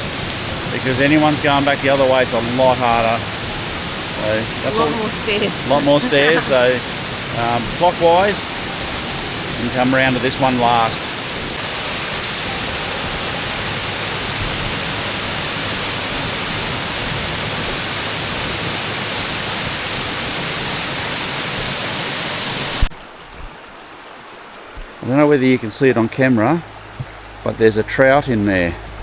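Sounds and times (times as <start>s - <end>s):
soft water sound: 0.0s - 29.0s
waterfall rushing: 0.0s - 29.0s.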